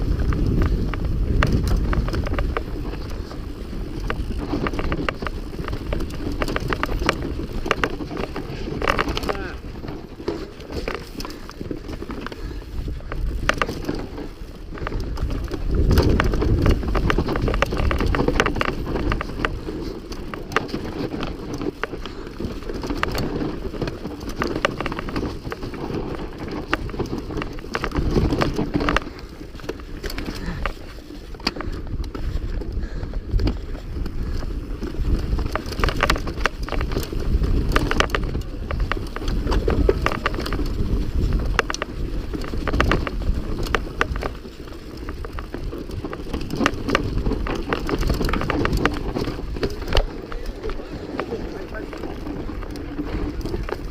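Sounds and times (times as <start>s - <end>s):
bike rattling and clicking: 0.0s - 53.9s
bike tyres rumbling on dirt: 0.0s - 53.9s.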